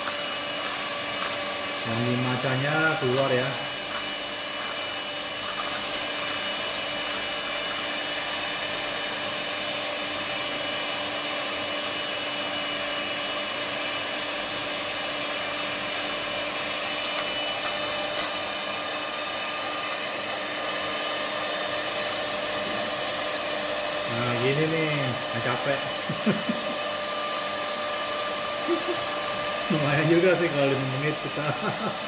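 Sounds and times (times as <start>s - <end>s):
electric mixer whining: 0.0s - 32.0s.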